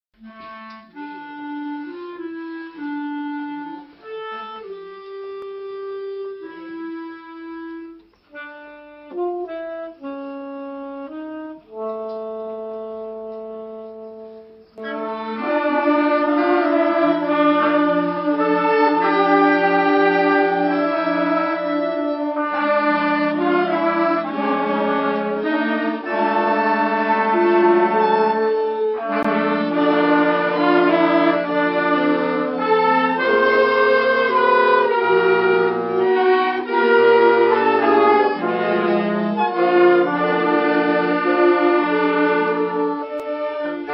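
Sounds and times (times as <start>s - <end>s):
single melody of held notes: 0.2s - 43.9s
wind orchestra playing: 0.2s - 43.9s.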